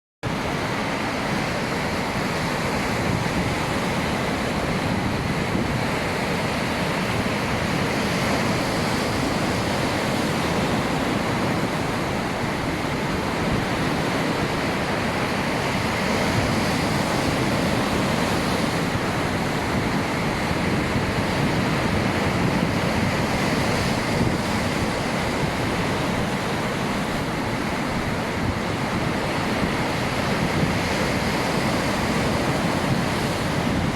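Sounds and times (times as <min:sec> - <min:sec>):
waves washing onto shore: 0:00.2 - 0:33.9.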